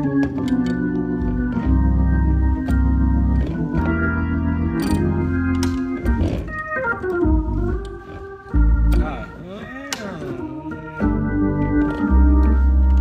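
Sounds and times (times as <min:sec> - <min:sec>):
deep bass notes: 0:00.0 - 0:07.9, 0:08.5 - 0:09.4, 0:11.0 - 0:13.0
organ playing sustained chords: 0:00.0 - 0:13.0.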